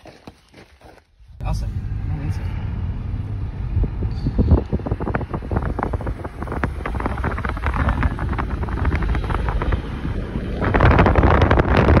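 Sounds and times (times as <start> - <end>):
car engine and road noise: 1.1 - 12.0
wind buffeting microphone: 1.2 - 12.0.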